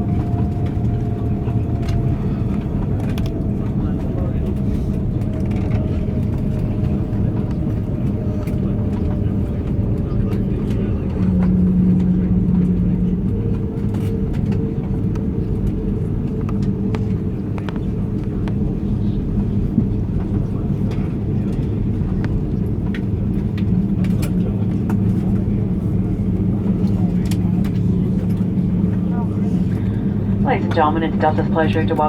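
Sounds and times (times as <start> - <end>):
aircraft cabin low rumble: 0.0 - 32.0
steady hum: 0.0 - 32.0.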